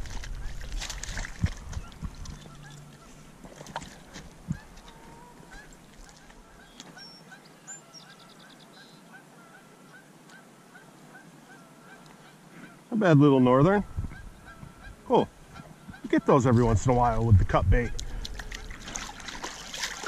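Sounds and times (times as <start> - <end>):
geese honking in the distance: 1.7 - 3.4, 4.4 - 19.9.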